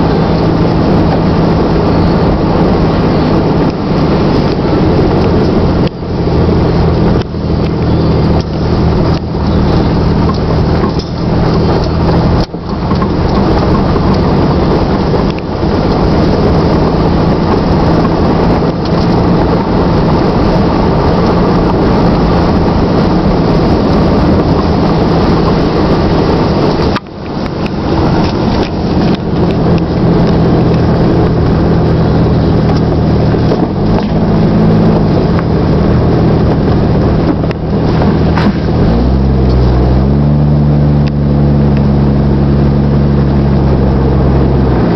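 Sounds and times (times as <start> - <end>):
car exhaust while driving: 0.0 - 44.9.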